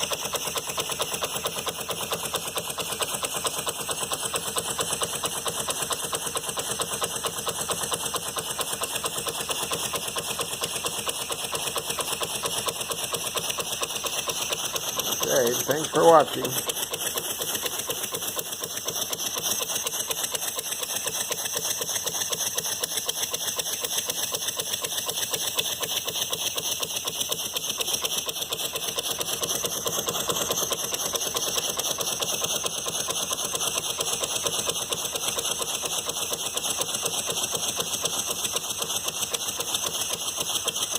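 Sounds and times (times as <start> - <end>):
model steam engine running: 0.0 - 40.9.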